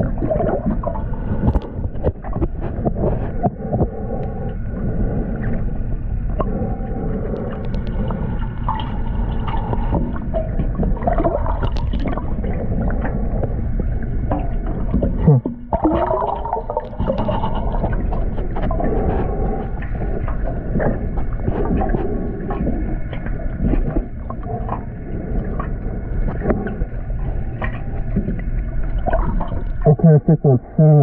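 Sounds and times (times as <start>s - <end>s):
gurgling bubbles: 0.0s - 31.0s
underwater low rumble: 0.0s - 31.0s.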